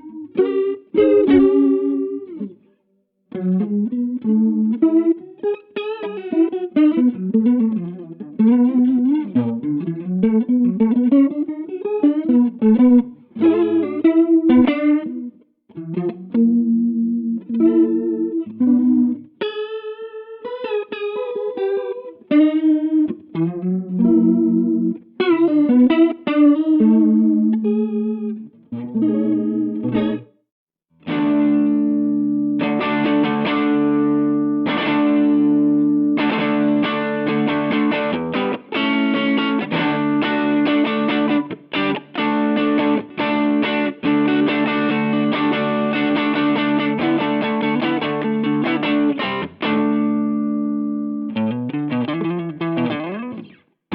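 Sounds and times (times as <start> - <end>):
electric guitar with chorus effect: 0.0 - 53.7.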